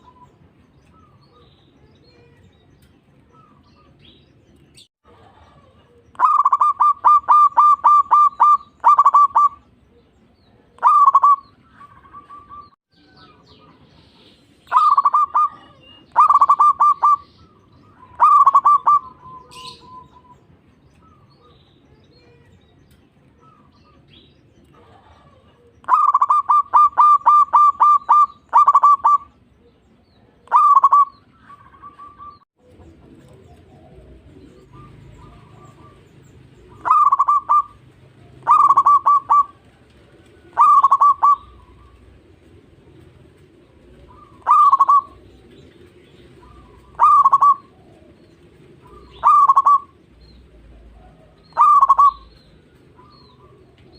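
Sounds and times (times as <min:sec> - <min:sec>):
dove song ringing notes: 0:00.0 - 0:04.9, 0:05.6 - 0:53.9.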